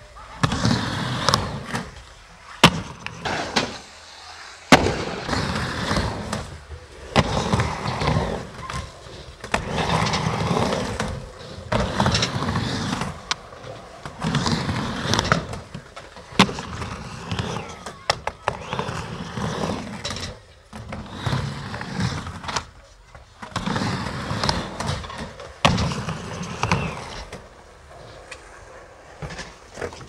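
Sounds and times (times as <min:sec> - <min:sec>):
skateboard wheels rumbling: 0:00.0 - 0:30.0
skateboard clacks: 0:00.2 - 0:03.9, 0:04.7 - 0:30.0.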